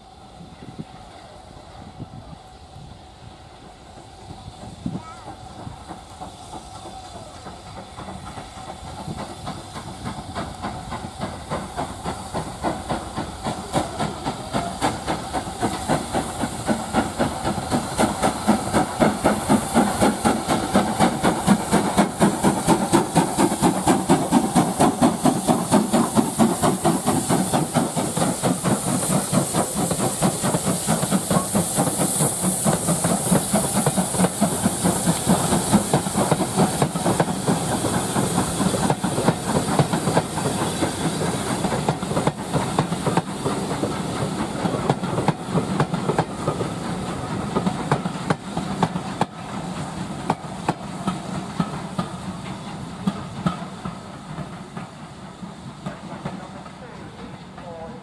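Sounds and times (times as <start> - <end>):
steam hissing: 0.0 - 58.0
steam locomotive exhaust chuffs: 0.0 - 58.0.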